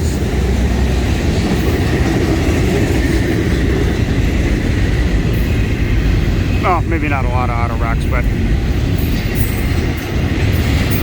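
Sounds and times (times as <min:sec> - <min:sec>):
steel wheels rumbling on rails: 0:00.0 - 0:11.0.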